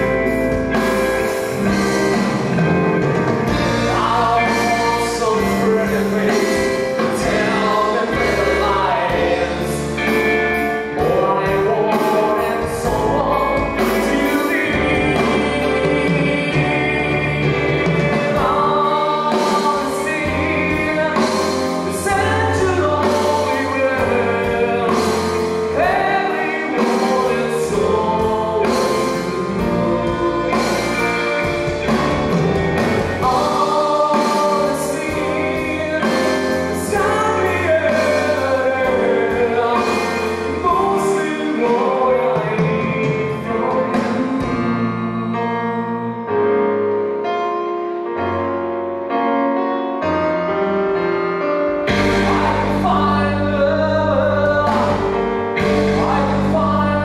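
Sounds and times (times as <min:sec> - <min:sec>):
bass guitar: 0:00.0 - 0:46.2, 0:50.4 - 0:57.0
man singing lead vocals: 0:00.0 - 0:46.8, 0:50.5 - 0:57.0
electric guitars: 0:00.0 - 0:47.2, 0:49.8 - 0:57.0
drums: 0:00.0 - 0:48.6, 0:50.3 - 0:57.0.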